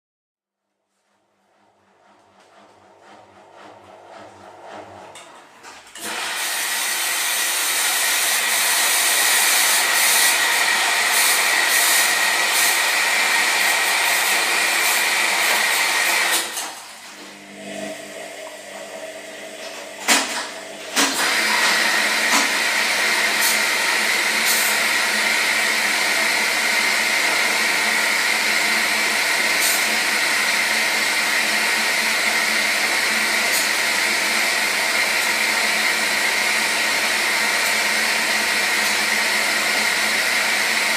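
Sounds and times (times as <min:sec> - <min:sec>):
washing machine whirring: 0:00.8 - 0:40.9.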